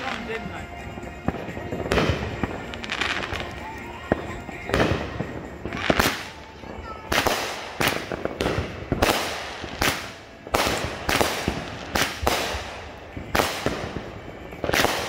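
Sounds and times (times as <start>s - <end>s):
fireworks bangs with hiss: 0.0s - 15.0s.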